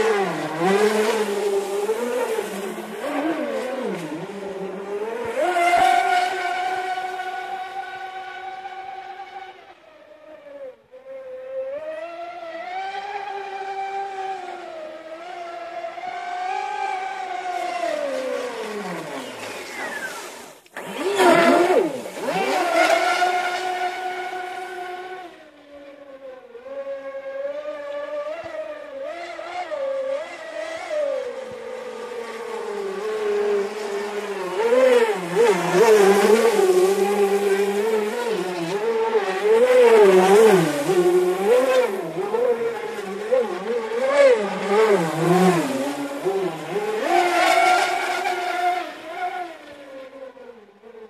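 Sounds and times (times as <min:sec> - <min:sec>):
model boat motor: 0:00.0 - 0:51.0.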